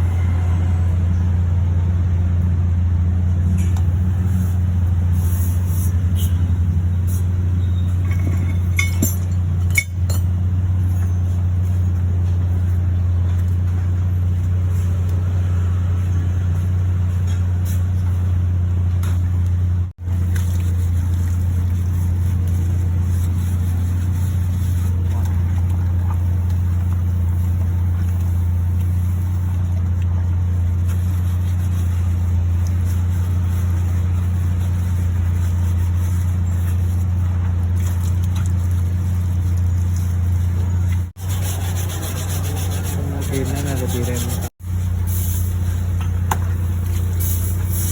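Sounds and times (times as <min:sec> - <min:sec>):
car engine humming: 0:00.0 - 0:47.9.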